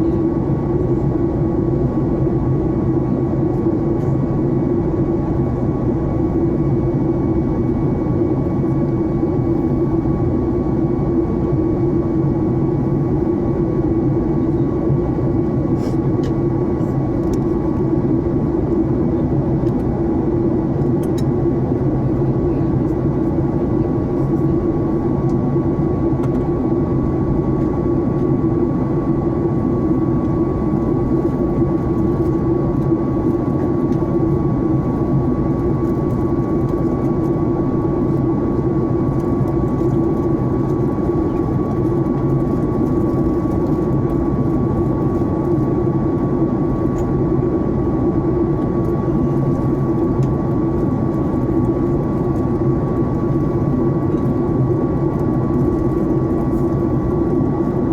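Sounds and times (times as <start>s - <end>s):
jet engine and airflow drone: 0.0s - 57.9s.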